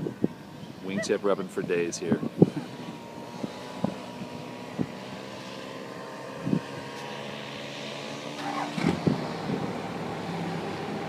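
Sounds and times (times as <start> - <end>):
paramotor engines droning: 0.0 - 11.0.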